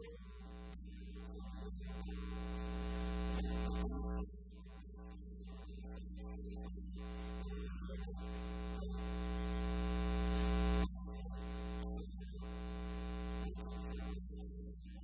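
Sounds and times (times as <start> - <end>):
buzzing tone: 0.0 - 4.8, 7.0 - 14.3
electrical mains hum: 0.0 - 15.0.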